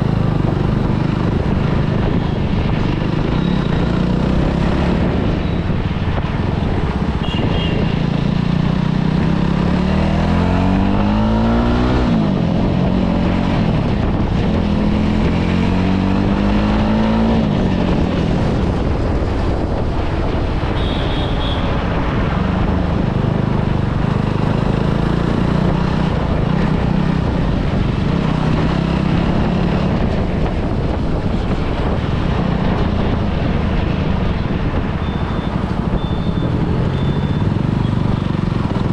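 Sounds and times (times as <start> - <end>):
motorcycle engine revving: 0.0 - 5.6, 7.2 - 21.7, 22.6 - 38.9
road and wind noise: 0.0 - 38.9.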